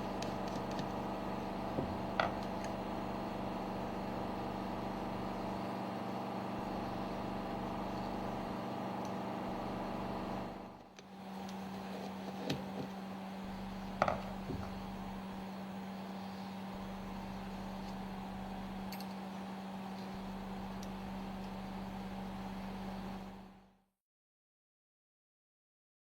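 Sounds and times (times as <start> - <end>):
machinery hum: 0.0 - 23.7.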